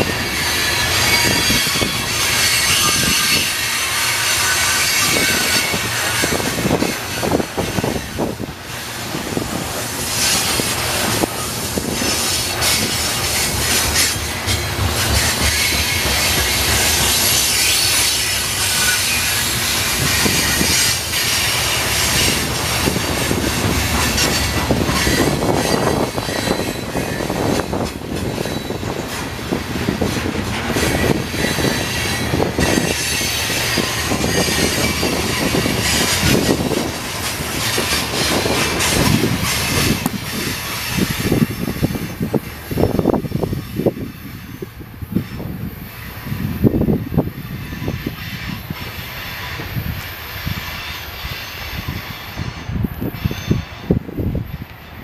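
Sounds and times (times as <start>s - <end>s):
wheel squeal: 0.0s - 54.0s
train wheels rumbling over rails: 0.0s - 55.0s.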